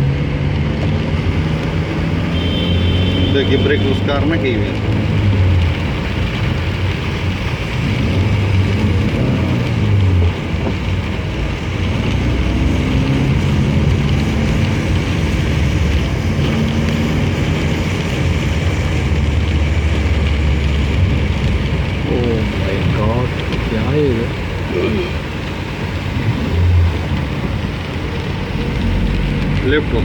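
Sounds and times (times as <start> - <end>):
tyre and water noise: 0.0 - 30.0.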